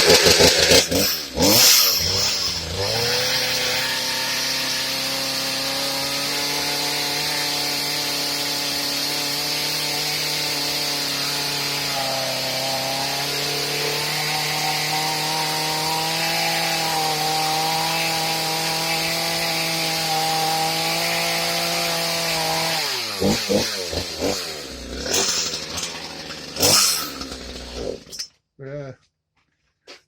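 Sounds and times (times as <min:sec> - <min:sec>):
chainsaw running and sputtering: 0:00.0 - 0:28.3.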